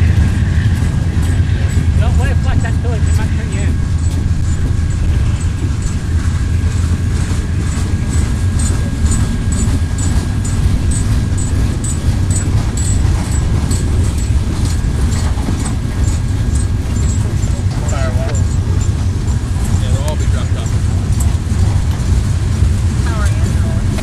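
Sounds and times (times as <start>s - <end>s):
freight train rumble: 0.0s - 24.0s
wheels clicking over rail joints: 0.0s - 24.0s.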